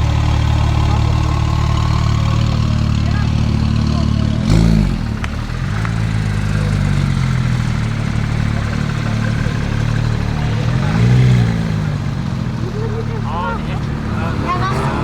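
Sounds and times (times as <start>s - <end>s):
car engine idling with throttle blip: 0.0s - 15.0s.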